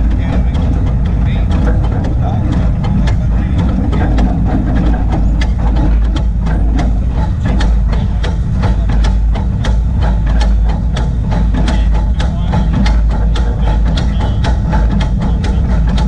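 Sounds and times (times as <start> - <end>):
sharp clicks and ticks: 0.0 - 16.0
steam locomotive rumble: 0.0 - 16.0.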